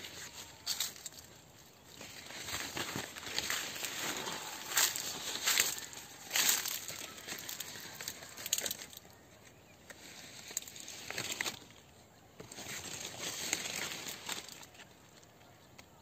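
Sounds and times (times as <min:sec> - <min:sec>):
leaves rustling and crackling: 0:00.0 - 0:15.5.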